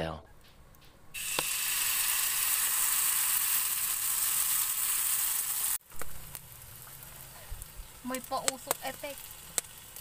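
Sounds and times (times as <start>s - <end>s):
batter sizzling in a frying pan: 1.2s - 10.0s.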